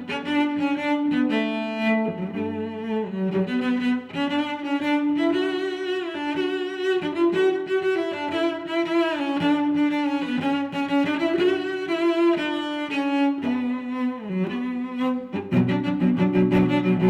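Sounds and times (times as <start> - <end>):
bowed cello-like strings melody: 0.0 - 17.0.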